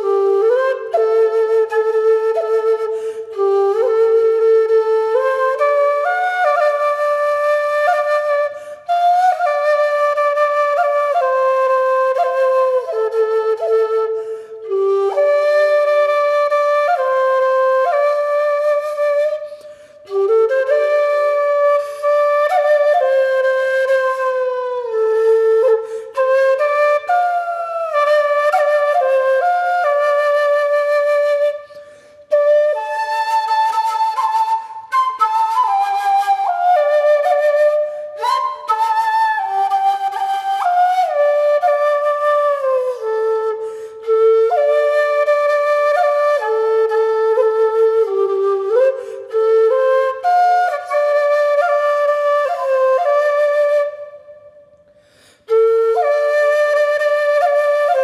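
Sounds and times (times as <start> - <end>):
slow solo flute melody: 0.0 - 58.0.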